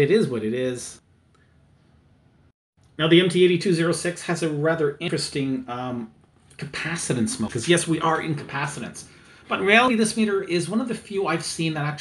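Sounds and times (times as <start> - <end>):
man speaking: 0.0 - 1.0, 3.0 - 12.0.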